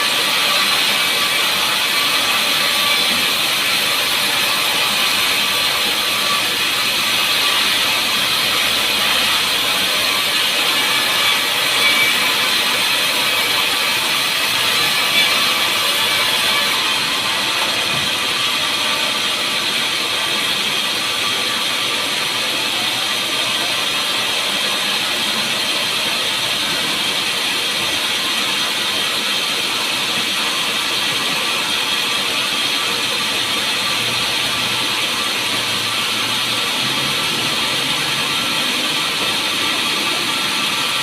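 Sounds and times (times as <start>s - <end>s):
sawmill saw running: 0.0s - 41.0s.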